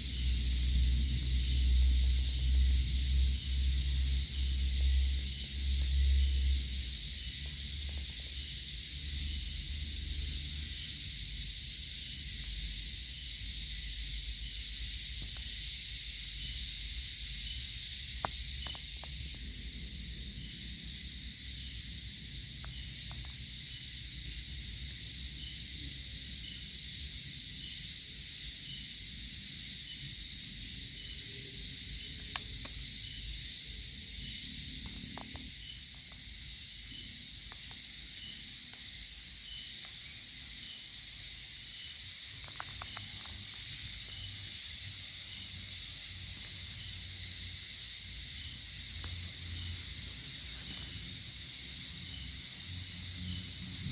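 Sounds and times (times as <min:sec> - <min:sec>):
faint insect chirp: 0:00.0 - 0:53.9
high-pitched insect chorus: 0:00.0 - 0:53.9.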